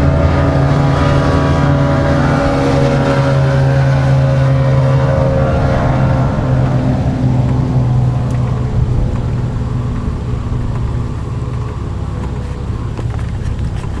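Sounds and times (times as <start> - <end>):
outboard motors running: 0.0 - 14.0.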